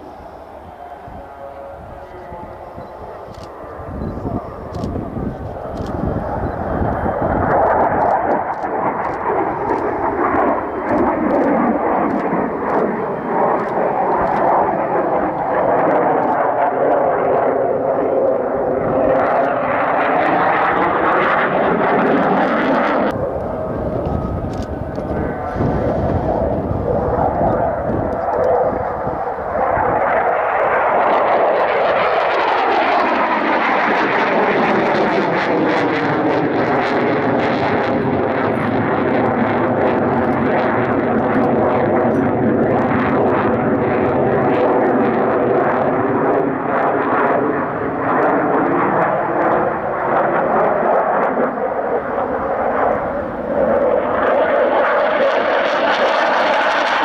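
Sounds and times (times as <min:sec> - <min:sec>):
fighter jet roar: 0:00.0 - 0:57.0.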